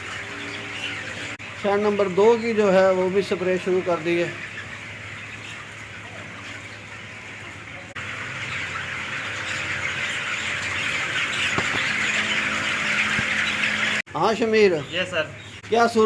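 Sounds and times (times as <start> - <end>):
chickens peeping and squawking: 0.0 - 16.0.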